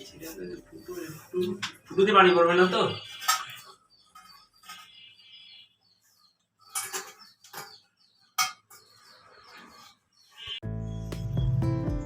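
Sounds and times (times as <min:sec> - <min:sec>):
faint bird chirps: 0:00.0 - 0:11.8.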